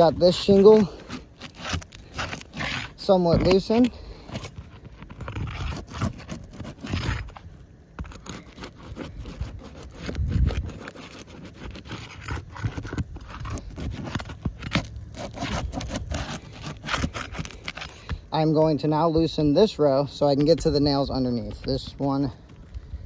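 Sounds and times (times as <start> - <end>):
tool scraping roof shingles: 0.0 - 19.4.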